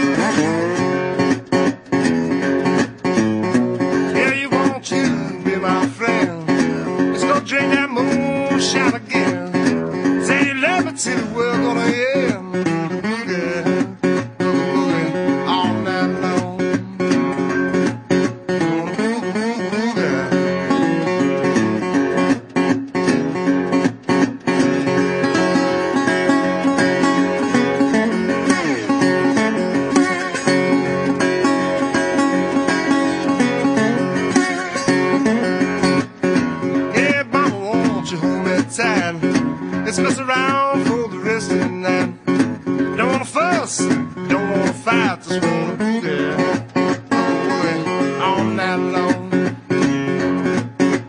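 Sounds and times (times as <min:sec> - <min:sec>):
strummed acoustic guitar song: 0:00.0 - 0:51.0.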